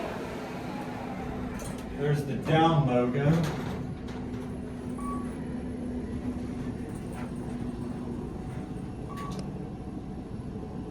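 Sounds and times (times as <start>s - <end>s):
elevator rumble and hum: 0.0s - 10.9s.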